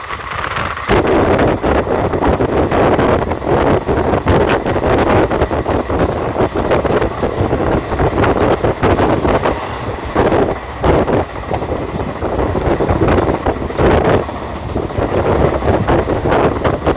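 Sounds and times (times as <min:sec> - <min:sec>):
train rushing clatter: 0:00.0 - 0:16.9
wind buffeting microphone: 0:00.0 - 0:16.9.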